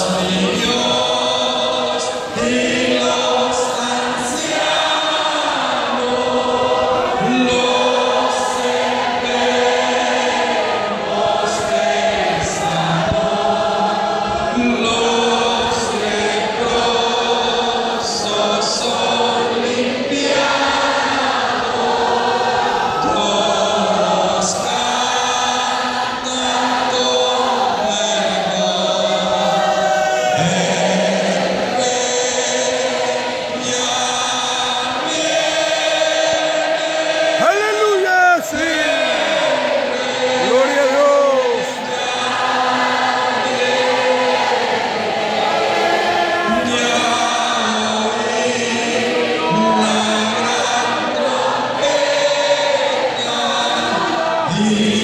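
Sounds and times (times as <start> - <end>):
congregation singing: 0.0 - 55.0.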